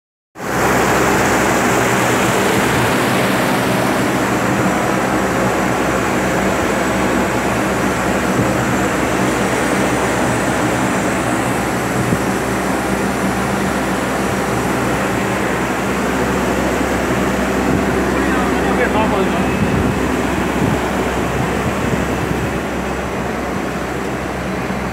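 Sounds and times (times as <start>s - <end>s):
industrial machinery and fans droning: 0.4s - 24.9s.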